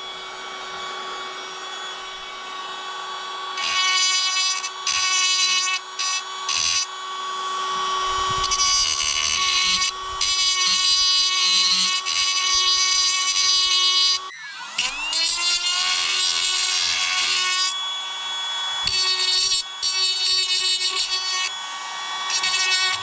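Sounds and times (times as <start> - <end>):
power tool whining: 0.0 - 23.0.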